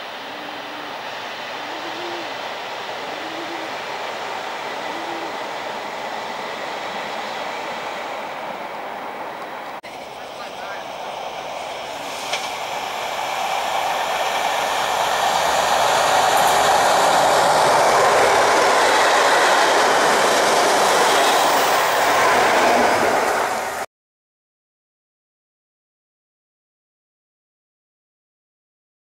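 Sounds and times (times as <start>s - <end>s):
diesel train passing at speed: 0.0s - 23.9s.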